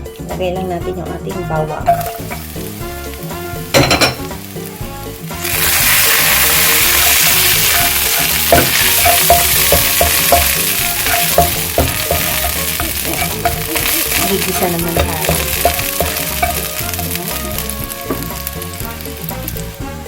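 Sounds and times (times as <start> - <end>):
garlic sizzling in oil: 0.9 - 20.0.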